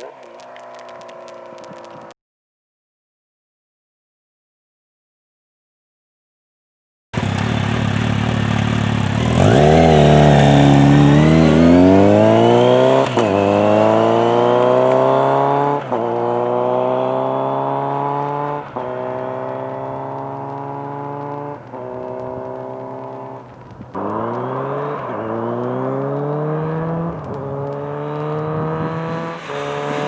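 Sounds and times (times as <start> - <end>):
motorcycle engine revving: 0.0 - 2.1, 7.2 - 30.0.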